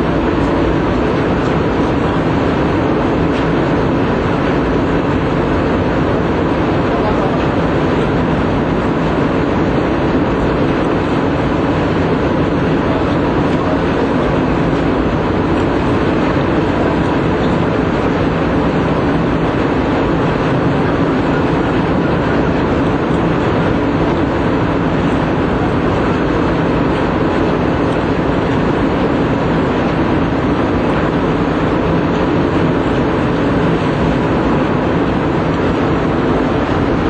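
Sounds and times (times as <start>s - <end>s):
loud mechanical running noise: 0.0s - 37.0s.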